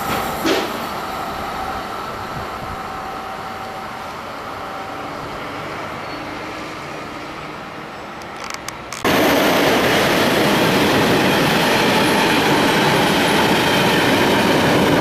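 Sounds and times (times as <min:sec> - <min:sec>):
train wheels rumbling on rails: 0:00.0 - 0:05.8, 0:08.2 - 0:15.0.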